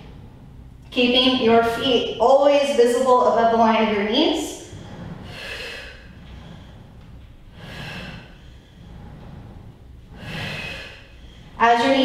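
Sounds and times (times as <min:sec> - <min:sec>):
woman breathing: 0:01.5 - 0:12.0.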